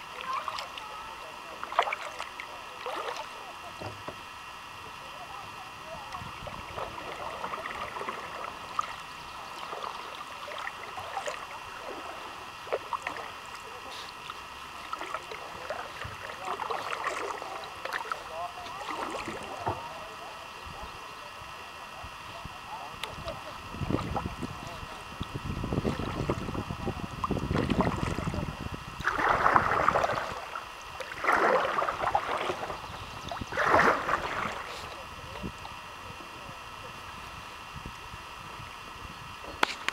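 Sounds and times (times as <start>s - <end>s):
water splashing around kayak: 0.0s - 37.3s.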